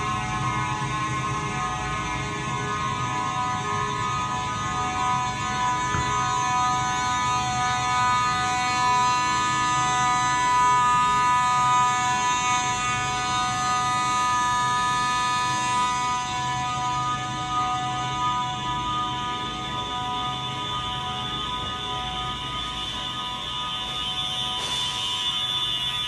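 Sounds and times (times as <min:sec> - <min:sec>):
fire alarm horns buzzing: 0:00.0 - 0:26.0.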